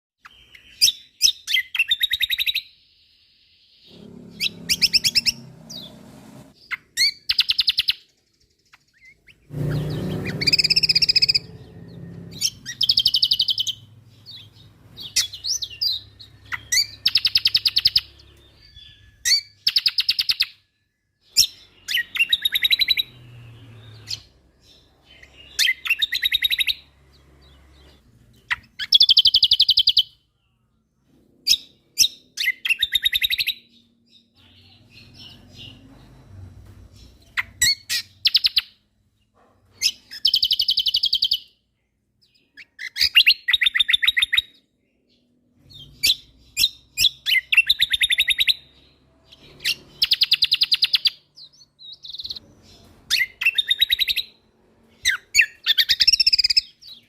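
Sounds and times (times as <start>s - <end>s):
songbird singing trilled phrases: 0.2s - 5.9s, 6.6s - 30.6s, 31.5s - 35.9s, 37.0s - 38.8s, 39.8s - 41.6s, 45.6s - 54.4s, 55.0s - 57.0s.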